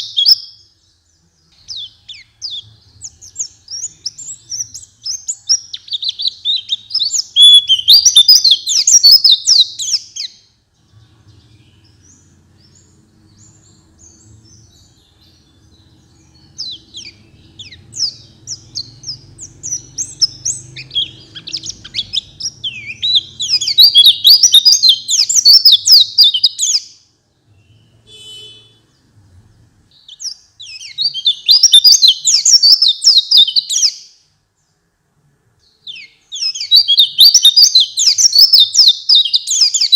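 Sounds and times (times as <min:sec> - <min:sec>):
bird twittering song: 0:00.0 - 0:34.9, 0:35.6 - 0:39.9.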